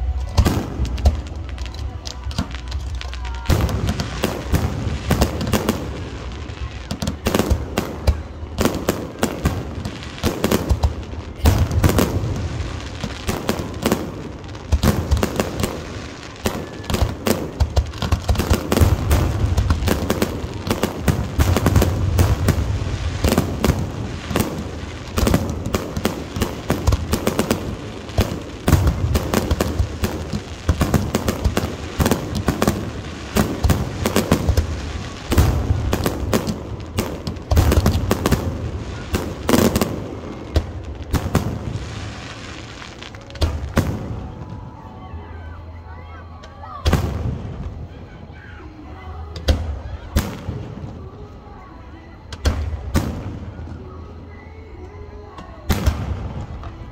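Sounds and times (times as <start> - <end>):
fireworks bangs and crackling: 0.0 - 45.0, 46.4 - 48.0, 49.3 - 51.6, 52.2 - 54.6, 55.4 - 56.9.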